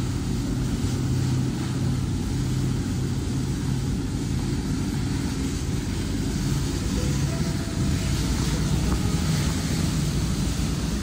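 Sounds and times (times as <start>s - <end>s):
diesel engines low drone: 0.0s - 11.0s
wake rushing: 0.0s - 11.0s
wind: 0.0s - 11.0s.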